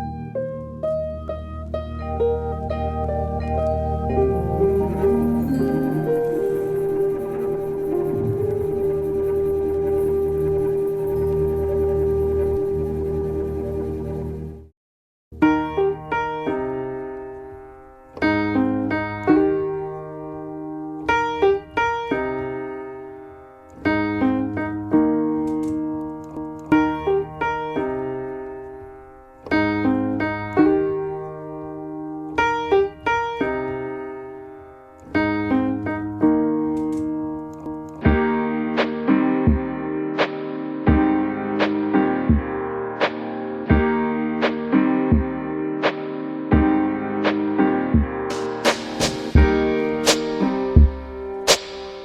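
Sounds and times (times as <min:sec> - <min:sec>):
gentle piano music: 0:00.0 - 0:14.7, 0:15.3 - 0:52.0.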